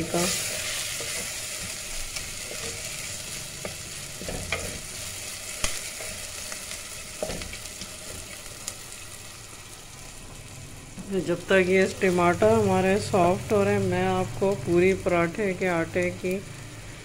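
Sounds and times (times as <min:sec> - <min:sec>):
masala sizzling in oil: 0:00.0 - 0:17.0.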